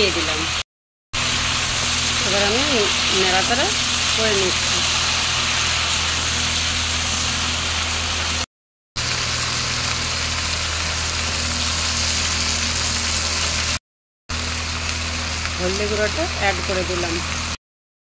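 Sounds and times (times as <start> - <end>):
vegetables sizzling in oil: 0.0 - 0.6, 1.2 - 17.6.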